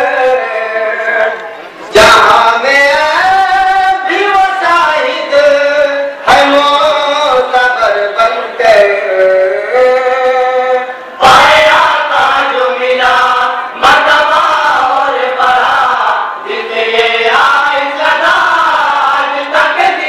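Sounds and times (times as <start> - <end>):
men singing in unison: 0.0 - 20.0.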